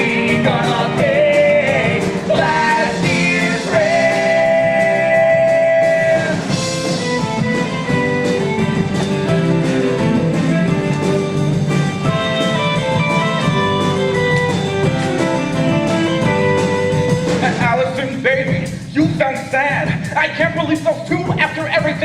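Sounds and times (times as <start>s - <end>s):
rock band playing: 0.0s - 22.0s.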